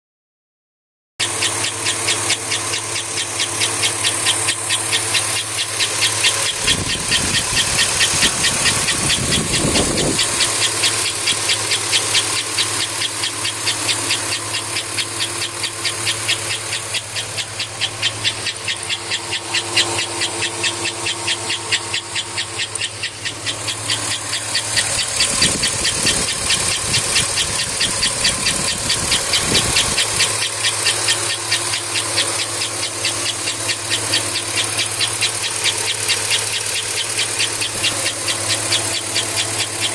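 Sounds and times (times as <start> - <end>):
car engine hum: 1.2 - 39.9
deep engine rumble: 1.2 - 39.9
fast repeating chirp: 1.2 - 39.9.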